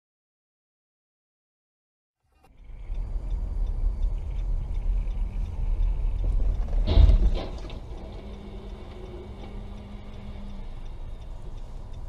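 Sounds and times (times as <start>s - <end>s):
car rumbling: 2.3s - 12.0s.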